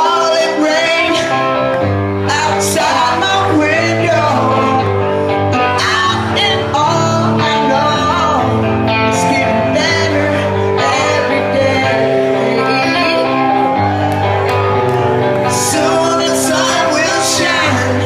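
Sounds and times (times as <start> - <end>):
man singing: 0.0 - 13.8, 15.4 - 18.0
bass: 0.0 - 18.0
distorted electric guitars: 0.0 - 18.0.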